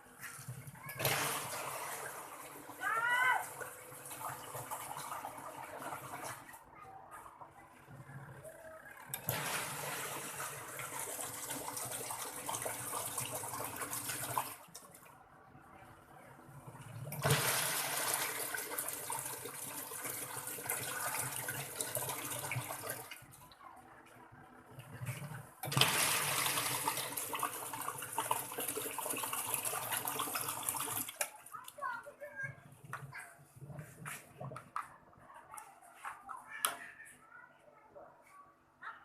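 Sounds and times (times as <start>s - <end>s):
washing machine churning water: 0.0s - 32.0s.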